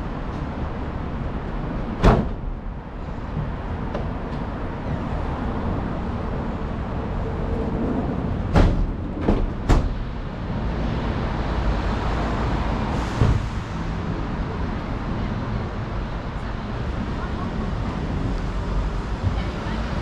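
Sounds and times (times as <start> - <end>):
road traffic rumbling: 0.0 - 20.0.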